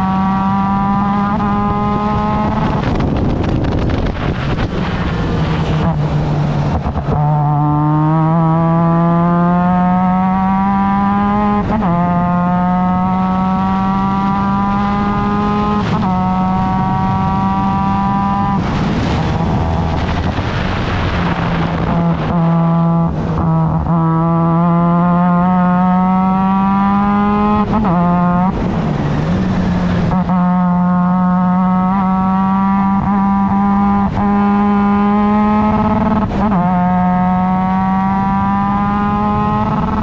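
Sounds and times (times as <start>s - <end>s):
engine revving on downshifts: 0.0s - 40.0s
race car engine accelerating: 0.0s - 40.0s.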